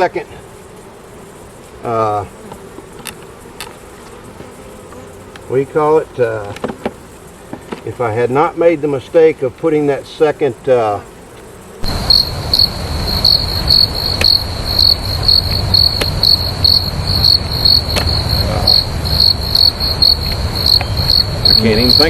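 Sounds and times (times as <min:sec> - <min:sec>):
insect chirping in pulses: 0:00.0 - 0:22.0.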